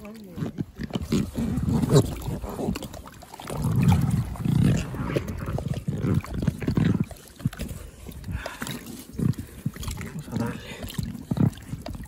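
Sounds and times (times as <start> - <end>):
rubber inner tube creaking: 0.1 - 12.0.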